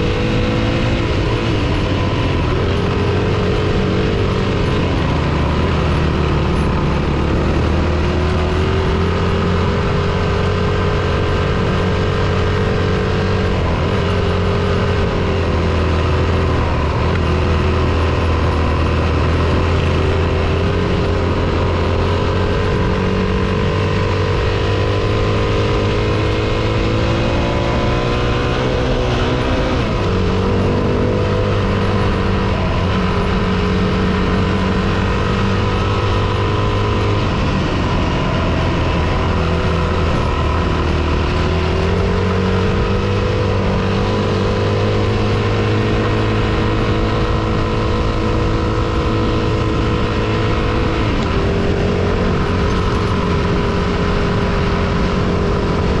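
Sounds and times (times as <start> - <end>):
steady rush of noise: 0.0 - 56.0.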